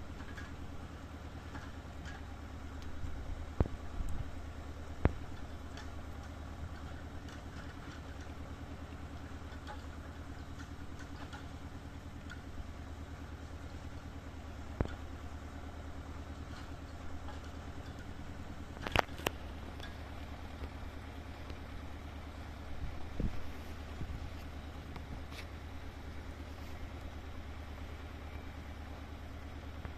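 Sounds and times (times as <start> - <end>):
engine running low: 0.0 - 29.9.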